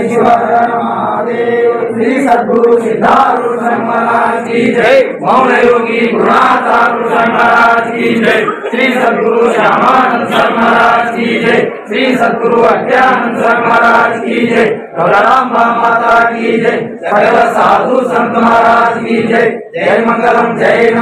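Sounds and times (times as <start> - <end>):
crowd chanting in unison: 0.0 - 21.0
sharp rhythmic beats: 0.0 - 21.0.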